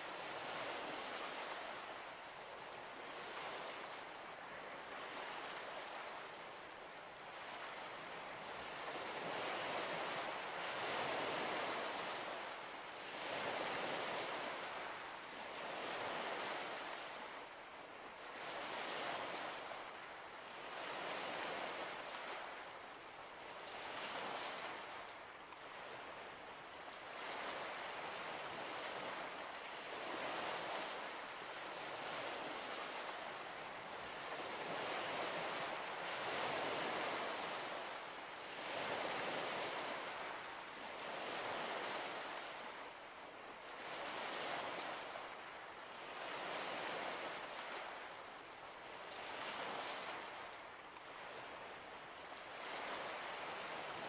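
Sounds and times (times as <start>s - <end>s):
waves washing onto shore: 0.0s - 54.0s.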